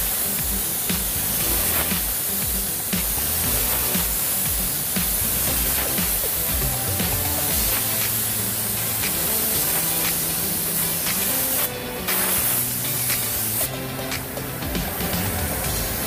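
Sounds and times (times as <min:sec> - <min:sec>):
paint spray gun hissing: 0:00.0 - 0:16.0.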